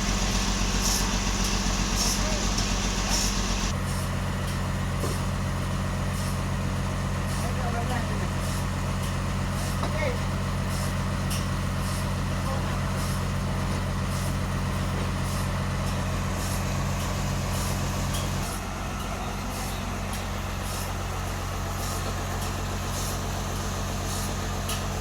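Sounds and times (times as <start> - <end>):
sawmill machinery engine drone: 0.0 - 25.0.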